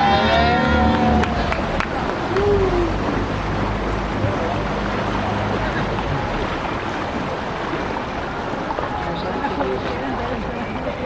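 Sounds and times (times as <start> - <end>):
boat motor hum: 0.0 - 11.0
boat moving through water: 0.0 - 11.0.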